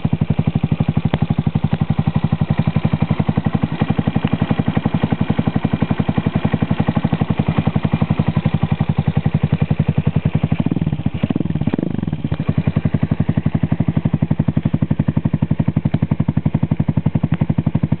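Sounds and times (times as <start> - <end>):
engine blipped: 0.0 - 18.0
motorcycle engine idling: 0.0 - 18.0.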